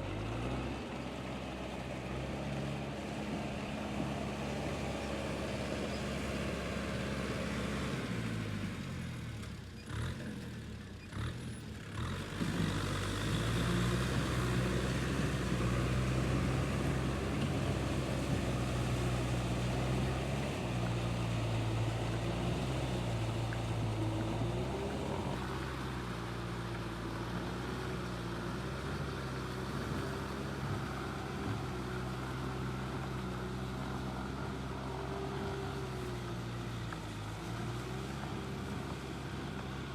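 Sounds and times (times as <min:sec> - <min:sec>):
motor engine running: 0:00.7 - 0:39.9.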